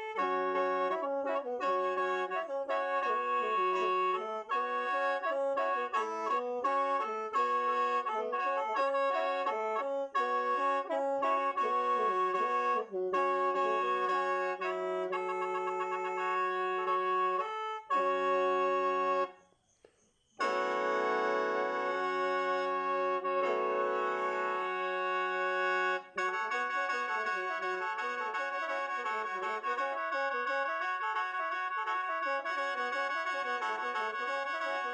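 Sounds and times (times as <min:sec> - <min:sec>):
mouth organ melody: 0:00.0 - 0:19.4, 0:20.4 - 0:31.1.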